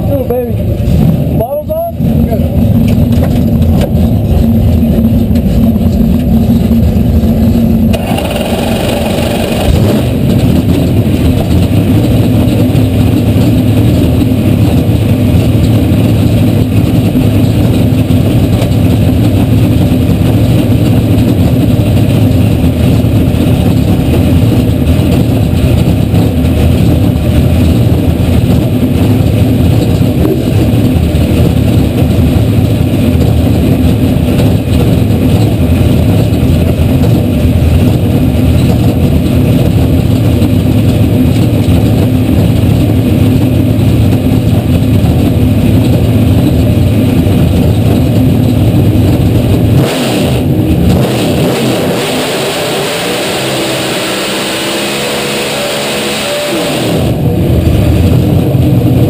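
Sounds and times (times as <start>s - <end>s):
drag car engine running loudly: 0.0s - 59.0s.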